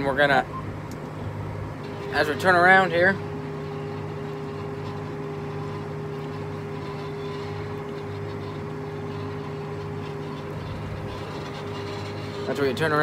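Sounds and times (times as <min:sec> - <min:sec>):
steady higher hum: 0:00.0 - 0:13.0
tractor engine drone: 0:00.0 - 0:13.0.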